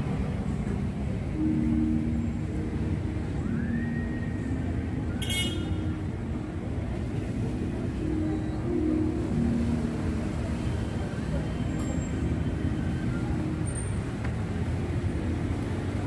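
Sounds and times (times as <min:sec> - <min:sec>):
car engines rumbling: 0:00.0 - 0:16.0.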